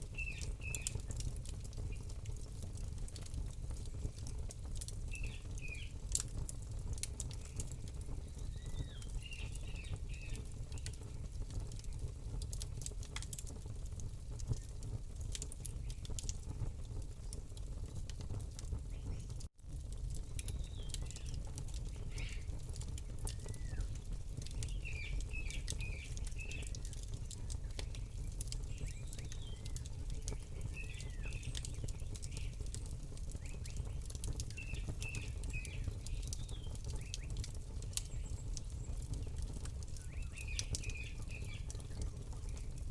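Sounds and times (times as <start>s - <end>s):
small birds chirping: 0.0s - 6.2s, 6.9s - 13.3s, 18.8s - 19.4s, 20.2s - 42.9s
campfire crackling and popping: 0.0s - 42.9s.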